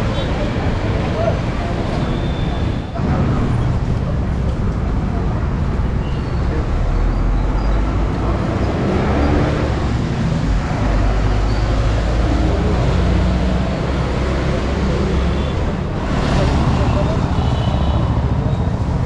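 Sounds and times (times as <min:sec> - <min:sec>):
motorbikes and cars passing: 0:00.0 - 0:19.0.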